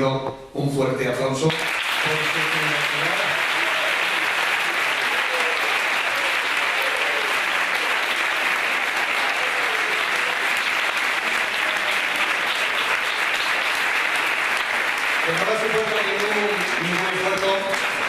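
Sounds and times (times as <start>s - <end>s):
audience applauding: 1.5s - 18.0s.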